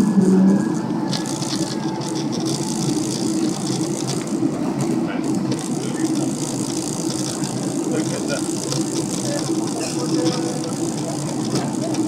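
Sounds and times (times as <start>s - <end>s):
jet engine and airflow drone: 0.0s - 12.0s.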